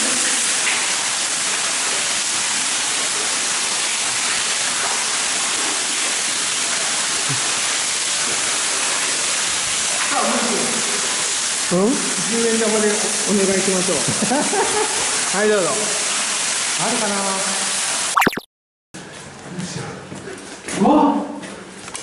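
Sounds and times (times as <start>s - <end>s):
waterfall falling into pool: 0.0s - 18.4s.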